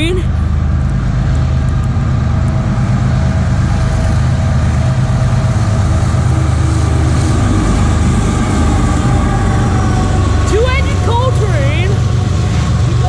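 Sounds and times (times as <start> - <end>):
diesel locomotives rumbling: 0.0 - 13.0
train rolling on rails: 0.0 - 13.0.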